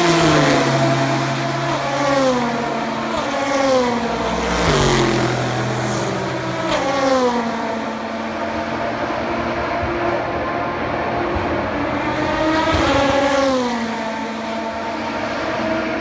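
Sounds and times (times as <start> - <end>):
race cars passing at speed: 0.0 - 16.0.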